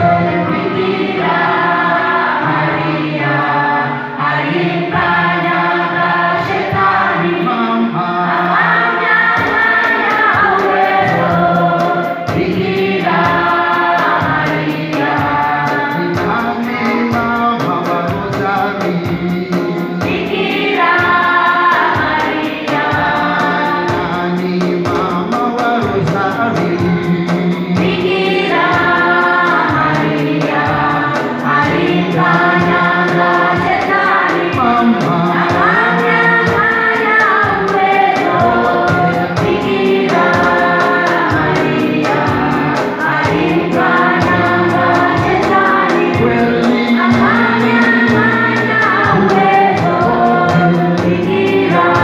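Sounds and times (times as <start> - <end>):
congregation singing: 0.0 - 52.0
steady drum beat: 4.3 - 52.0.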